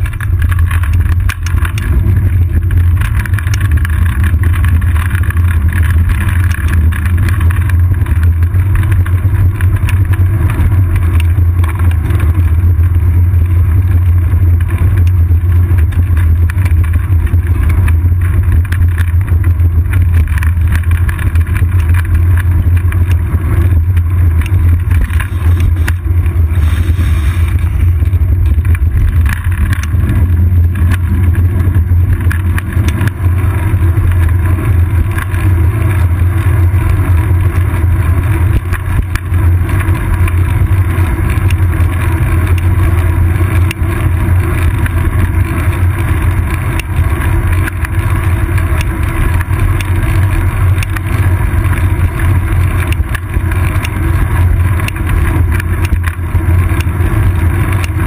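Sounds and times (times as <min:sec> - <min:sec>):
faint clicks from bumps: 0:00.0 - 0:58.0
wind and road rumble: 0:00.0 - 0:58.0.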